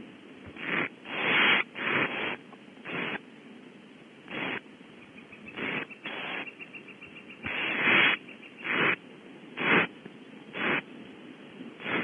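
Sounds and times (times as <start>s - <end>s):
owlets rasping hiss-like calls: 0.0s - 3.3s, 4.2s - 10.9s, 11.8s - 12.0s.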